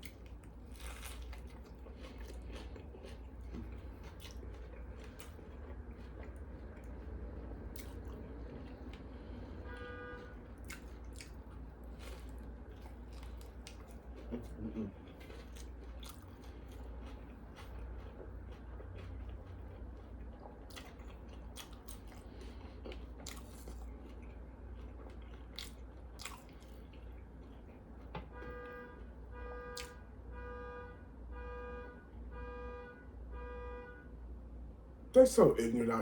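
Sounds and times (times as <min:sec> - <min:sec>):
person chewing crunchy food: 0:00.0 - 0:30.0.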